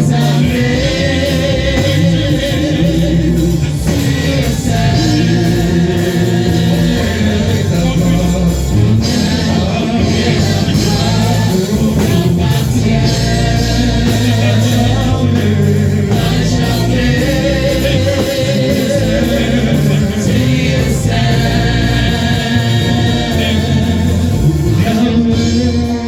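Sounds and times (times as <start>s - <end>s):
gospel choir singing with band: 0.0s - 26.0s.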